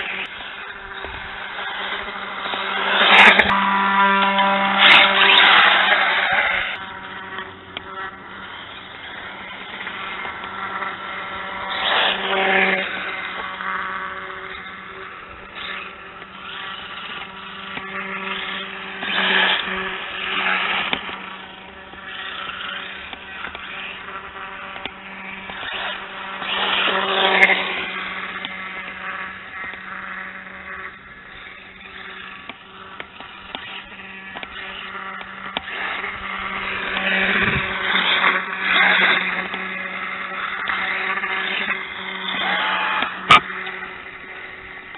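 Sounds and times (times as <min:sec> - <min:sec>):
rc dirt bike motor: 0:00.0 - 0:44.9
steady hum: 0:00.0 - 0:44.9.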